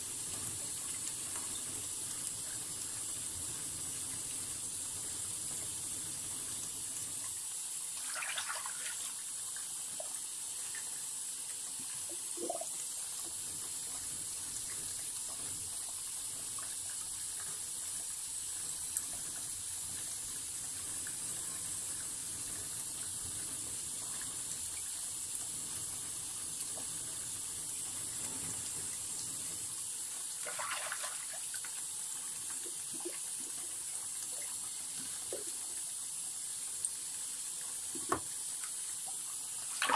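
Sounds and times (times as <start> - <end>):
water running from tap into sink: 0.0 - 39.9.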